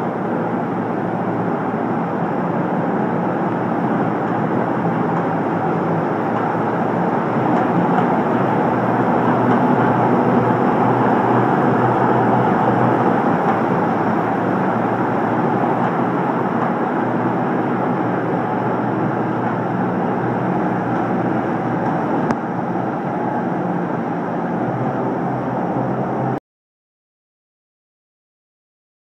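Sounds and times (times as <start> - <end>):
tractor diesel engine running: 0.0 - 26.4.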